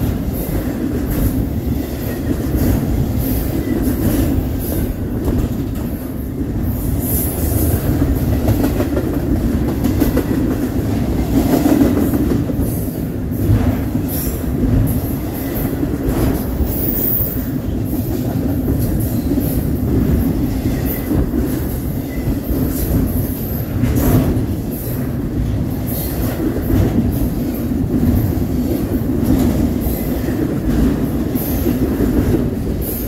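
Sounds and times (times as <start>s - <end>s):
train rumbling and rattling: 0.0s - 33.0s.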